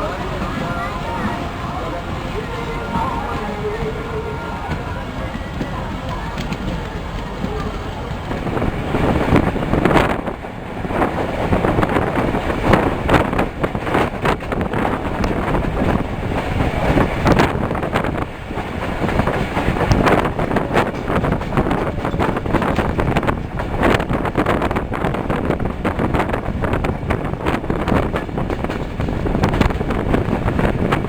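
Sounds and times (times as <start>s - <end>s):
train rumble and rushing air: 0.0s - 31.0s
wheels clattering over rail joints: 0.0s - 31.0s.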